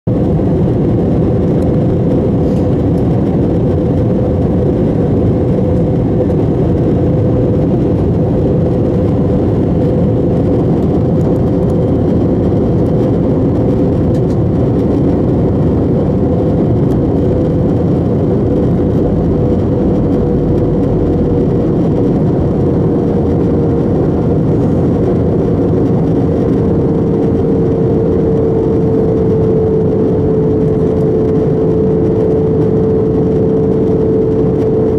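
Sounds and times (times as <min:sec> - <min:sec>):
jet engine and airflow rush: 0:00.0 - 0:34.9.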